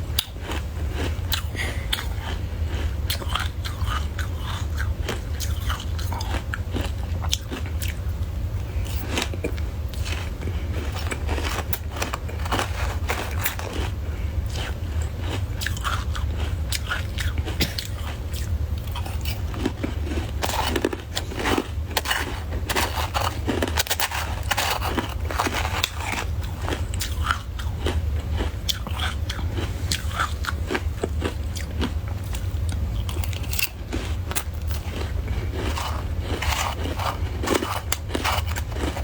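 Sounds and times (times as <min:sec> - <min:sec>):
ice being chewed: 0:00.0 - 0:39.0
steady low hum: 0:00.0 - 0:39.0.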